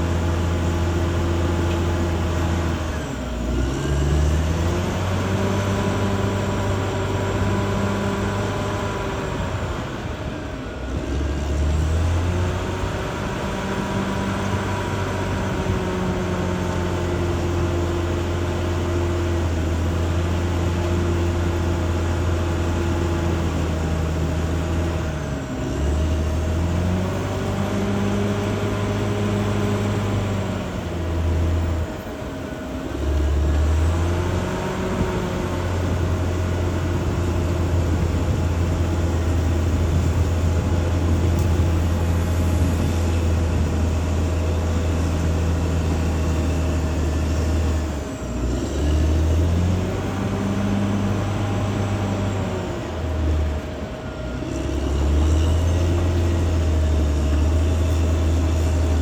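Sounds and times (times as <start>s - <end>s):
bulldozer diesel engine: 0.0s - 59.0s
steady whine: 0.0s - 59.0s.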